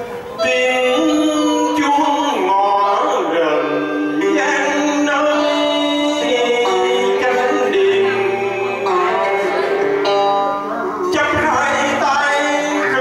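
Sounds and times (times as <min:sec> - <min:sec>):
instrumental accompaniment: 0:00.0 - 0:13.0
man singing into a microphone: 0:00.4 - 0:13.0.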